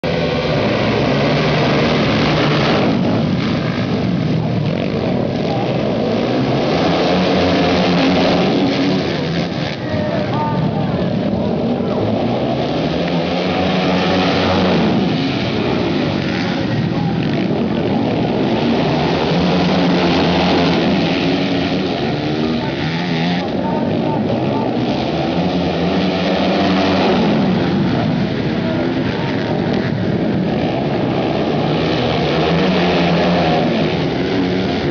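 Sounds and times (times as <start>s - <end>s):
racing motorcycle engines droning: 0.0s - 34.9s.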